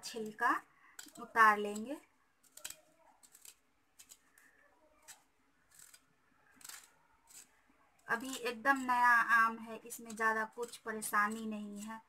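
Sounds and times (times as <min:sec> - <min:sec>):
peeler scraping mango skin: 0:01.0 - 0:04.4, 0:05.0 - 0:09.1, 0:09.9 - 0:12.0.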